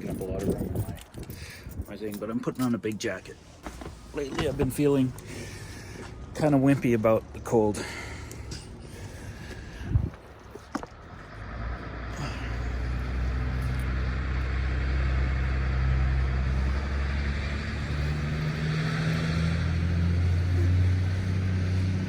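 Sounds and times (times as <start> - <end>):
vehicle engine running: 3.6 - 22.0.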